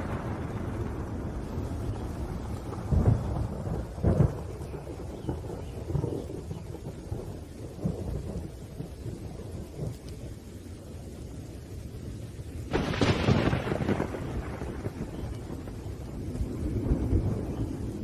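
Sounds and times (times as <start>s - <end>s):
sharp thunderclap: 0.0s - 10.2s, 12.6s - 18.0s
low rumble of thunder: 0.0s - 18.0s
steady rain: 0.0s - 18.0s.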